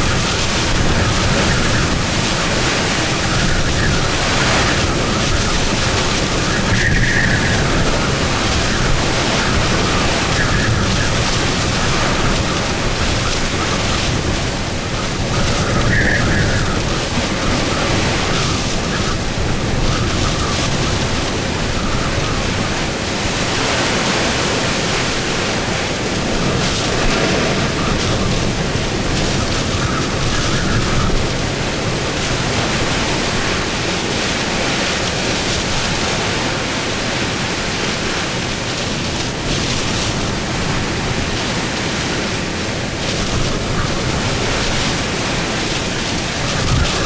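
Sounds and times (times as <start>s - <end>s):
high wind whistles: 0.0s - 47.0s
strong wind rushing: 0.0s - 47.0s.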